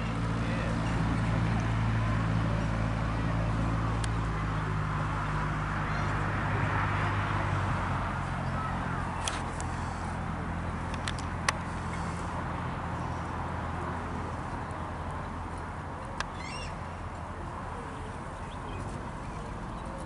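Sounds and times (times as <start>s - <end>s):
airplane engine running: 0.0s - 20.0s.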